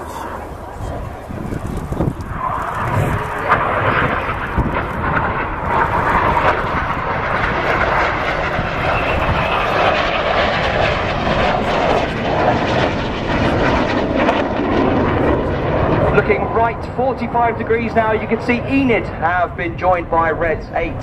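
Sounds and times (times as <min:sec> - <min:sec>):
jets flying low: 0:00.0 - 0:21.0.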